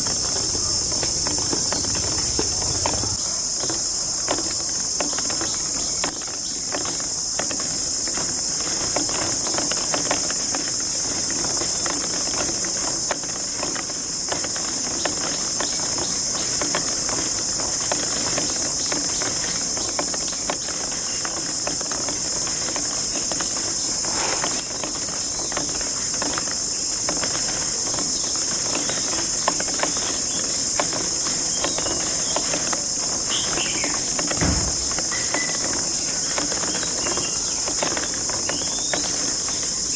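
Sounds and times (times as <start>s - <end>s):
constant high hiss: 0.0s - 39.9s.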